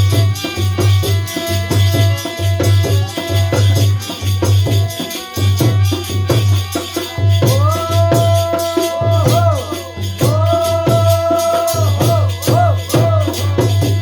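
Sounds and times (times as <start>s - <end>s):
shaker percussion: 0.0s - 14.0s
steady drum beat: 0.0s - 14.0s.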